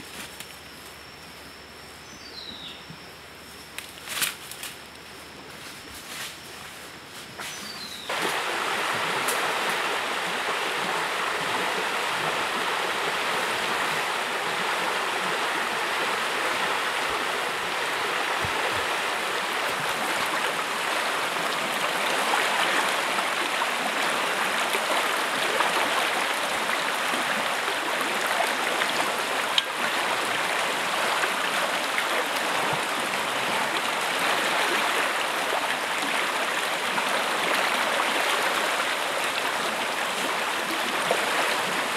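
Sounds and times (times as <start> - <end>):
stream rushing over rocks: 8.1 - 41.9.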